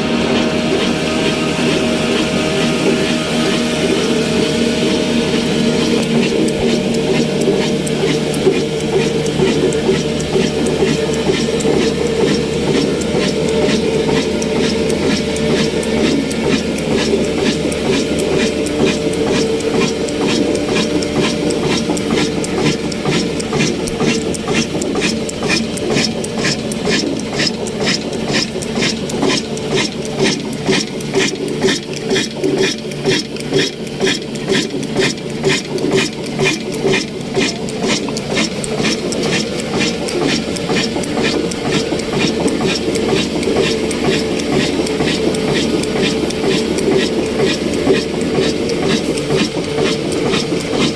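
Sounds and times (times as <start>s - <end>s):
diesel engine exhaust beats: 0.0s - 50.9s
mechanical drone: 0.0s - 50.9s.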